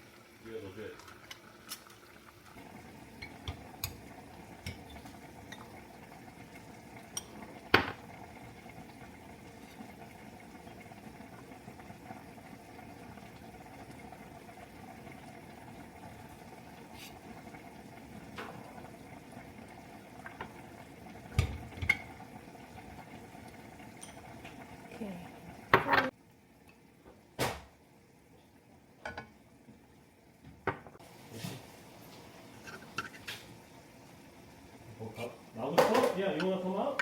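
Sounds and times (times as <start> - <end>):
pot boiling and bubbling: 0.0 - 37.0.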